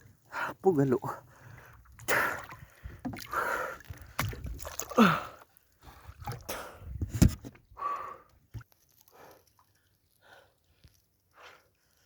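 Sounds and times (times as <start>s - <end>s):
water splashing around boat: 0.0s - 11.9s.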